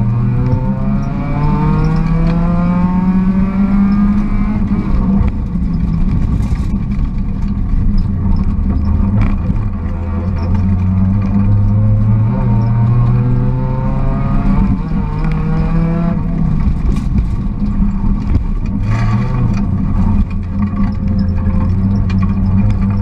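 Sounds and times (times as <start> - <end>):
rally car engine revving: 0.0 - 23.0
road and drivetrain rumble: 0.0 - 23.0.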